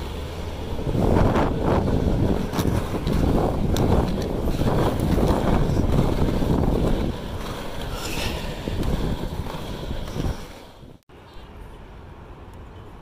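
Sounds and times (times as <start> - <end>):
wind buffeting microphone: 0.0 - 11.0
skateboard wheels rolling on asphalt: 0.0 - 13.0.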